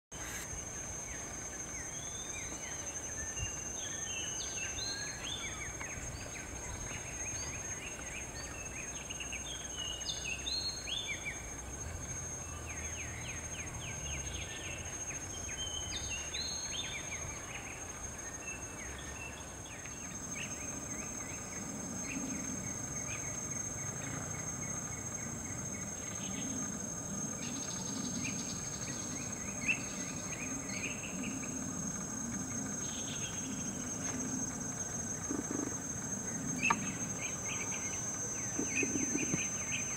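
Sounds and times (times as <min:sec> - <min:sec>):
insects high-pitched drone: 0:00.2 - 0:39.9.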